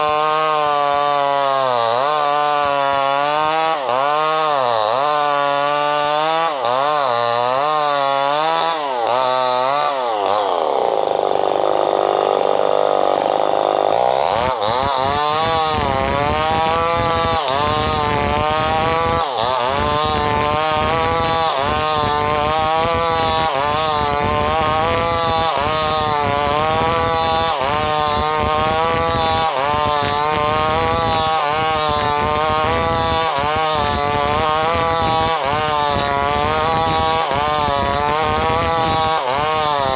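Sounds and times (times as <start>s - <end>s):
chainsaw ripping wood: 0.0s - 39.9s.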